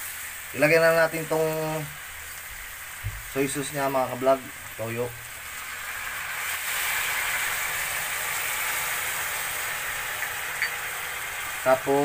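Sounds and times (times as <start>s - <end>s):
sauce sizzling in a hot pan: 0.0s - 12.0s.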